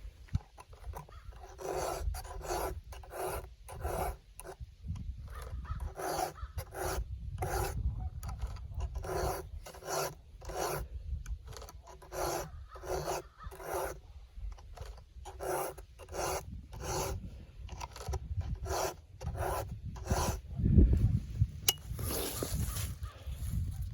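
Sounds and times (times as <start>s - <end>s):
hand file rasping on chain: 0.4s - 20.5s.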